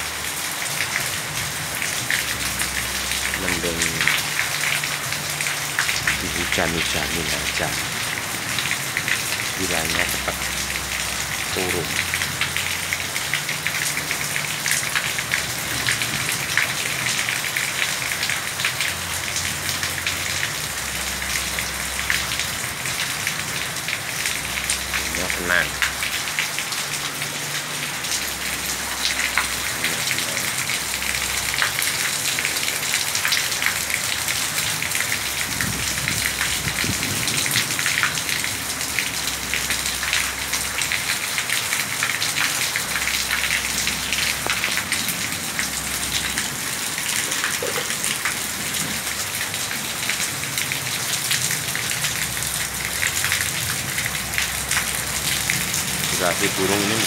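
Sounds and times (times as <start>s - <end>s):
rain on wet concrete: 0.0s - 57.0s.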